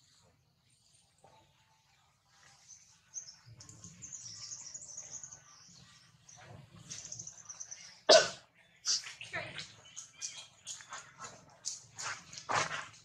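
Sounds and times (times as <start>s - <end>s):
faint bird chirping: 0.0s - 12.3s.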